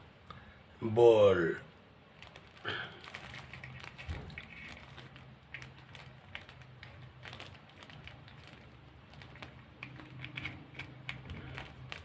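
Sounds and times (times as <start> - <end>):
faint low hum: 0.0 - 12.0
small parts clicking: 2.2 - 12.0.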